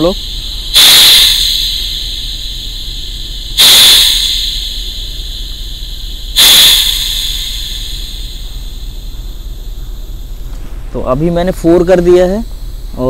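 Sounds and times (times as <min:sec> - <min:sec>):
air venting rush: 0:00.0 - 0:13.0
low steady hum: 0:00.0 - 0:13.0.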